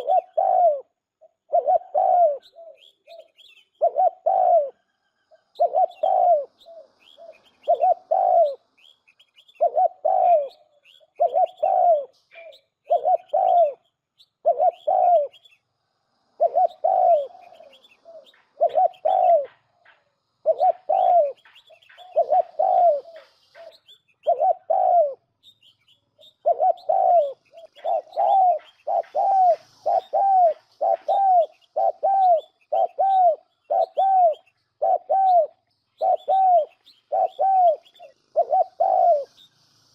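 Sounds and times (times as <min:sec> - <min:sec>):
dove cooing through a speaker: 0:00.0 - 0:08.7, 0:09.5 - 0:13.8, 0:14.4 - 0:15.4, 0:16.4 - 0:19.6, 0:20.4 - 0:25.3, 0:26.2 - 0:39.4.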